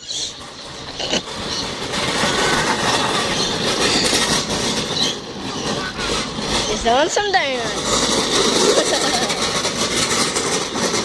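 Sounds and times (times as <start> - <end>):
lawnmower rattling: 0.0 - 11.0.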